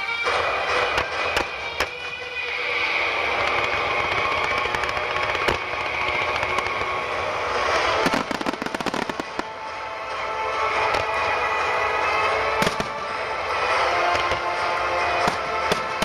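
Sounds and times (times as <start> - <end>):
fireworks crackling pops: 0.0 - 11.3, 12.6 - 16.0
music: 0.0 - 16.0.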